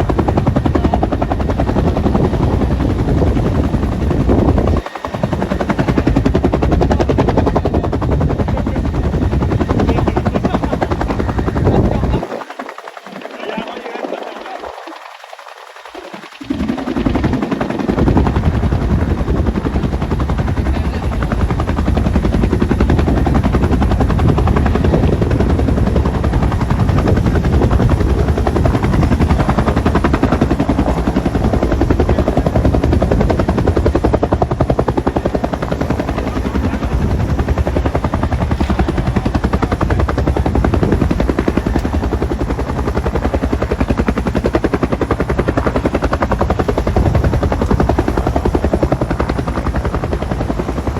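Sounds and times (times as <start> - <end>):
helicopter rotor blades beating: 0.0 - 50.9
helicopter turbine noise: 0.0 - 50.9.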